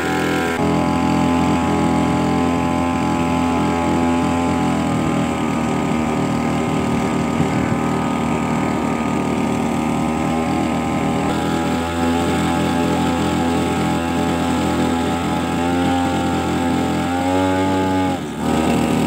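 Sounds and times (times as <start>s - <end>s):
boat outboard engine running: 0.0s - 19.0s.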